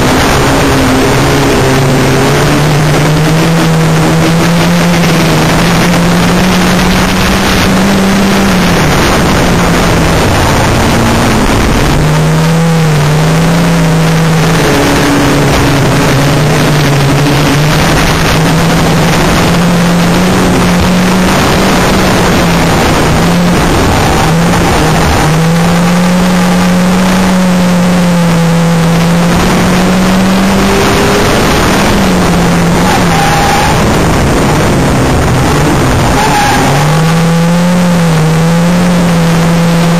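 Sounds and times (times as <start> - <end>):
race car engine running hard: 0.0 - 39.9
rattling and road noise: 0.0 - 39.9.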